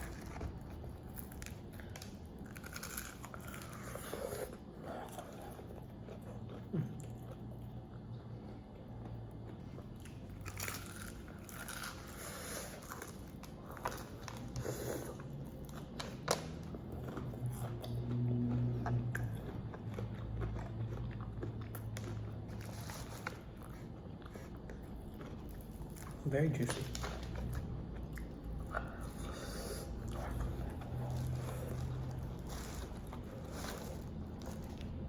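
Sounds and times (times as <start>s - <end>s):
person chewing crispy chicken: 0.0s - 35.0s
steady low hum: 0.0s - 35.0s.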